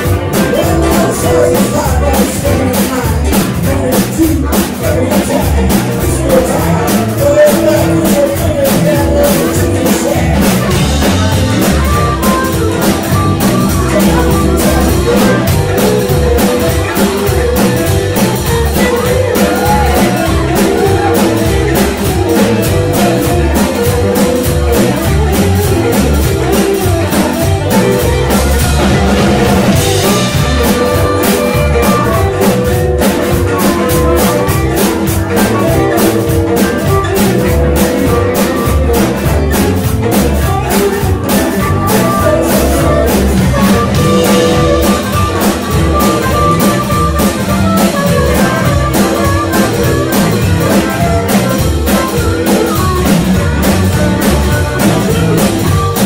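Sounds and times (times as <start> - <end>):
drum kit: 0.0 - 56.0
electric guitar: 0.0 - 56.0
keyboard: 0.0 - 56.0.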